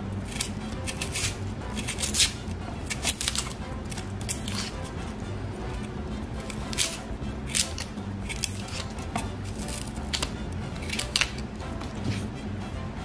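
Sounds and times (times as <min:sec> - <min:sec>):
onion skin crackling and scraping: 0:00.0 - 0:12.4.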